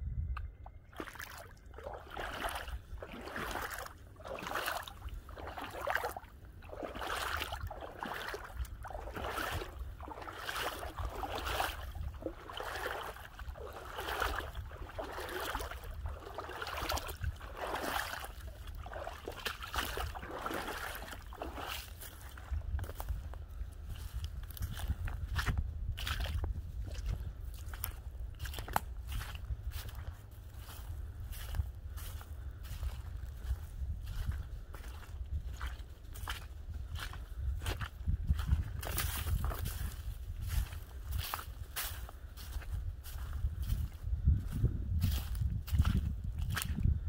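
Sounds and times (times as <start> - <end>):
footsteps splashing through water and mud: 0.3 - 47.0.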